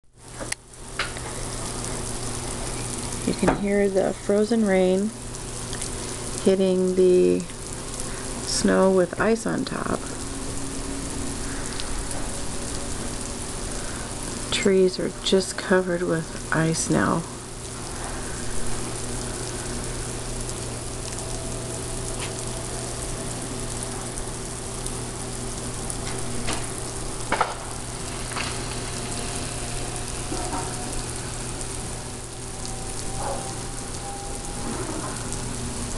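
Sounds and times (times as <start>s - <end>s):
freezing rain pattering on snow: 0.2s - 35.9s.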